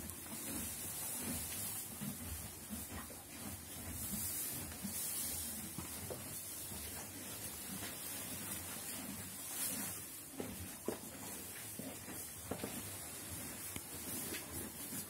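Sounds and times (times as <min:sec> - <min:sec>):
horse crunching hay: 0:00.0 - 0:15.0.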